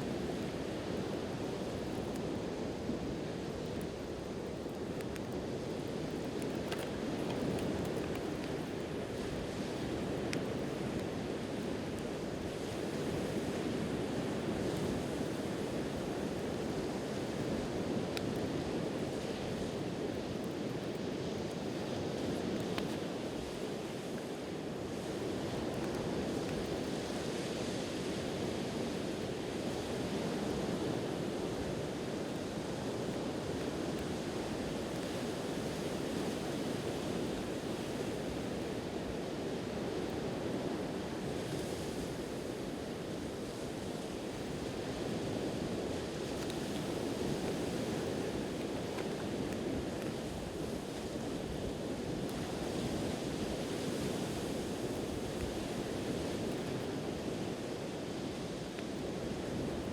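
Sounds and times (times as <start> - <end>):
surf washing on shore: 0.0 - 59.9.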